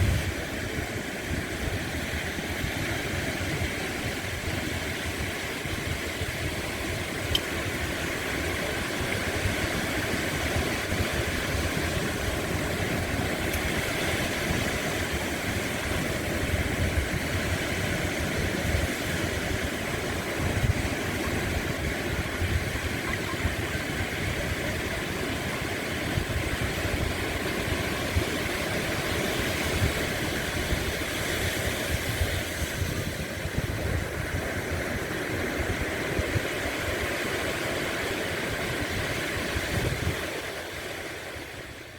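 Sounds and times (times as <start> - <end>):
waves washing on shore: 0.0 - 41.9.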